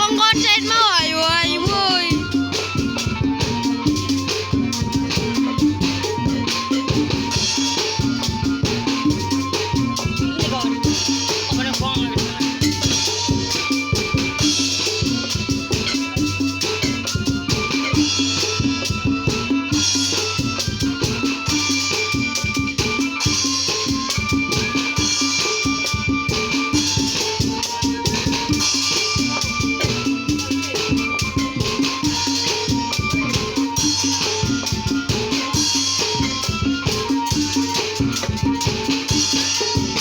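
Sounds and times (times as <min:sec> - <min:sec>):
fast steady drum rhythm: 0:00.0 - 0:40.0
rattling percussion: 0:00.0 - 0:40.0.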